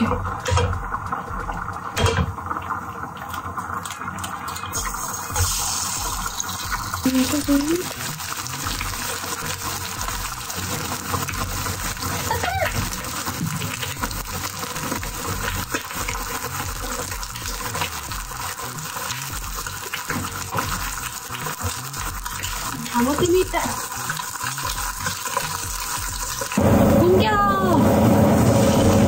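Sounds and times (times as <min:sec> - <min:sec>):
eggs sizzling in oil: 0:00.0 - 0:29.0.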